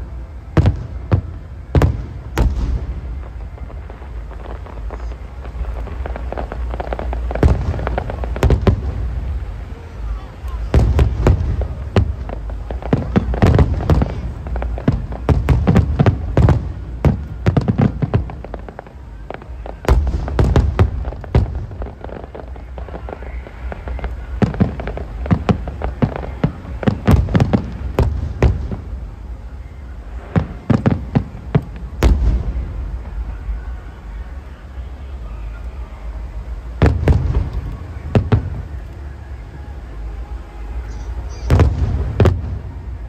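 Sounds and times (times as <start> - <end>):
fireworks bangs and booms: 0.0 - 43.0.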